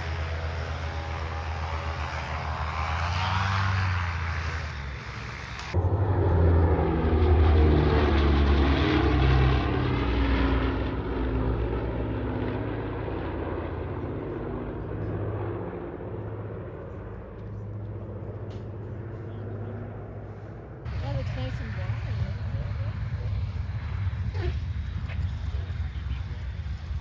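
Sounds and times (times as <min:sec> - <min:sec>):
propeller aircraft passing by: 0:00.0 - 0:27.0.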